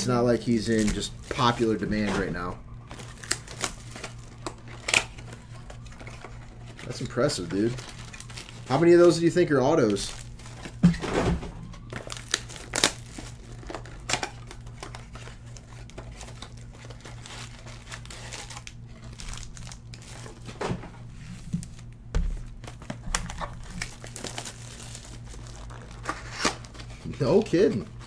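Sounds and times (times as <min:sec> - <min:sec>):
wrappers crinkling and tearing: 0:00.0 - 0:10.8, 0:11.8 - 0:20.6, 0:21.2 - 0:28.0.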